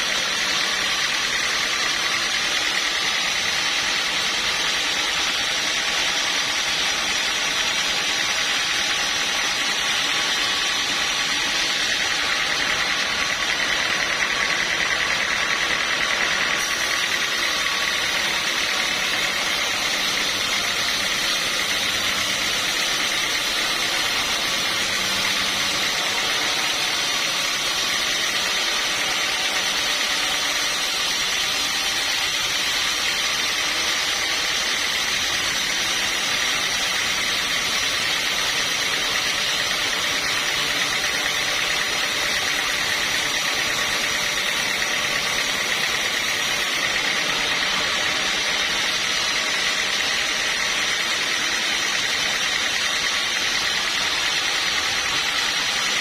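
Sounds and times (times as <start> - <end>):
high mechanical whine: 0.0 - 56.0
sawmill machinery running: 0.0 - 56.0.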